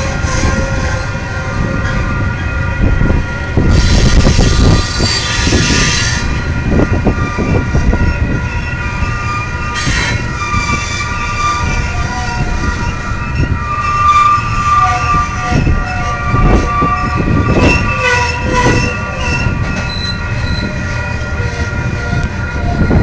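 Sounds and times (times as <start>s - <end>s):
freight cars rumbling: 0.0s - 23.0s
high wheel squeals: 3.7s - 23.0s.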